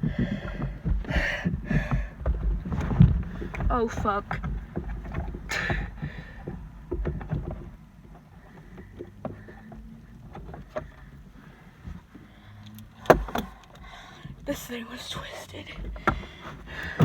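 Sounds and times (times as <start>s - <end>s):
clicks and knocks of car seat fittings: 0.0s - 14.4s, 15.8s - 17.0s.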